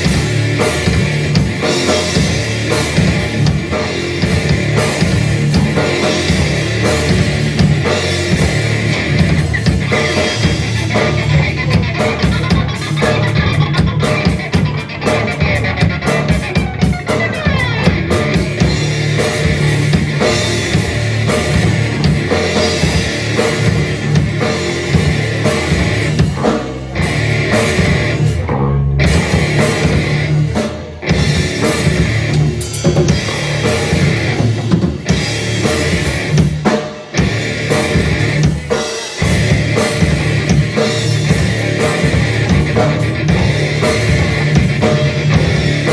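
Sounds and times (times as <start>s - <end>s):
distorted electric guitars: 0.0s - 45.9s
heavy rock band playing: 0.0s - 45.9s
pounding drum kit: 0.0s - 45.9s.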